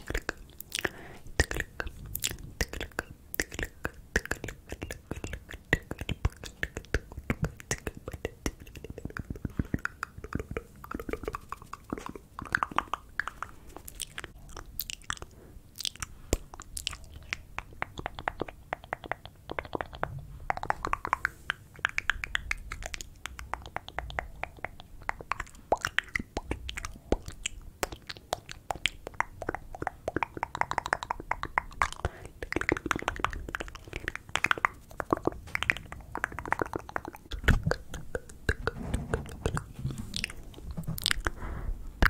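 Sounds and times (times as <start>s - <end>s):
wet mouth clicks and smacks: 0.0s - 41.4s.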